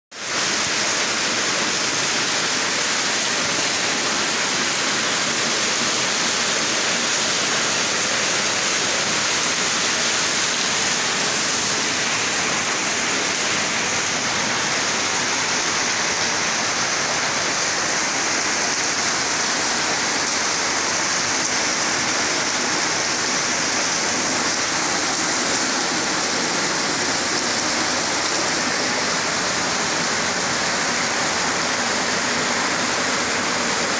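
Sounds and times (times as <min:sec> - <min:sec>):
rain pouring on street: 0:00.1 - 0:33.9.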